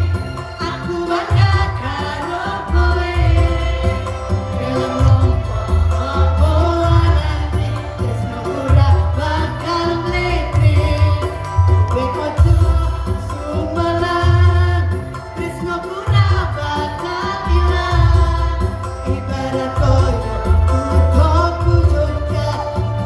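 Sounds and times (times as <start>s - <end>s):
mixed choir singing: 0.0s - 23.0s.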